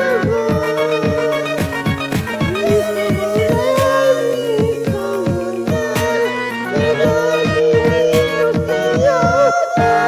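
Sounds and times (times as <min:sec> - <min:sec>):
karaoke backing track: 0:00.0 - 0:10.0.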